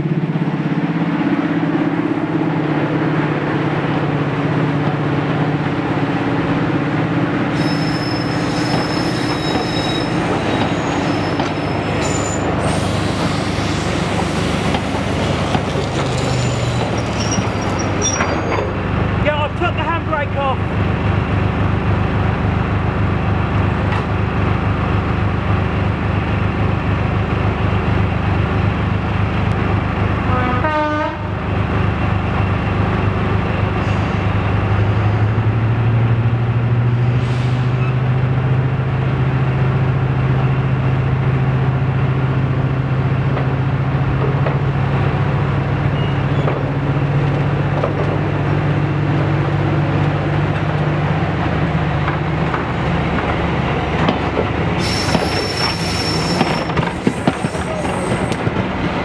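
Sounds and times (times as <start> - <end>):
diesel locomotive engine drone: 0.0 - 59.0
train rumbling on track: 0.0 - 59.0.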